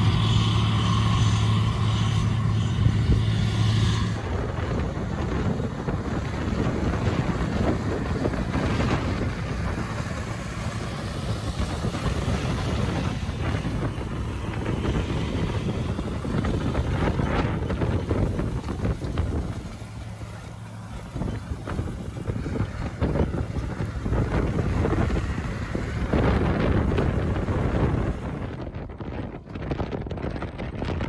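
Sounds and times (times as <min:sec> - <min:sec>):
diesel tractor engine droning: 0:00.0 - 0:31.0
wind buffeting on microphone: 0:00.0 - 0:31.0.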